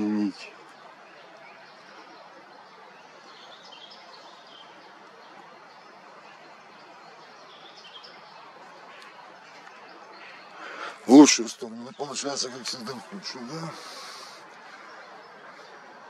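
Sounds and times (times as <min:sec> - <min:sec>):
faint songbirds chirping: 0:00.0 - 0:16.0
outdoor ambient hiss: 0:00.0 - 0:16.0.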